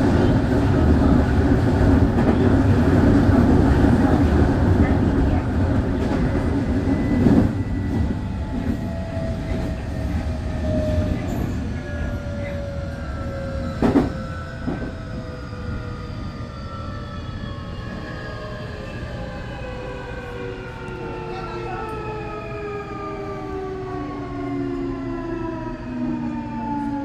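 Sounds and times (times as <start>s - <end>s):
train running noise: 0.0s - 22.1s.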